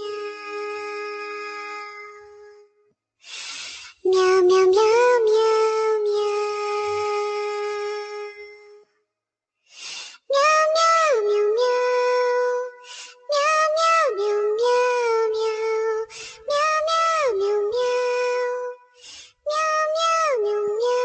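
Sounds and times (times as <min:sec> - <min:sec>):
synthetic child-like singing voice: 0:00.0 - 0:02.7, 0:03.3 - 0:08.8, 0:09.8 - 0:21.0.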